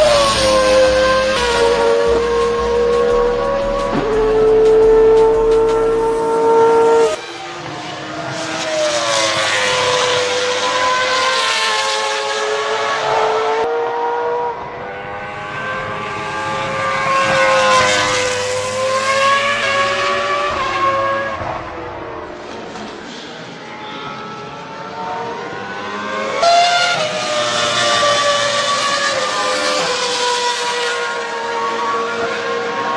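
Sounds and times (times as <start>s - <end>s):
car engine at high revs: 0.0s - 32.9s.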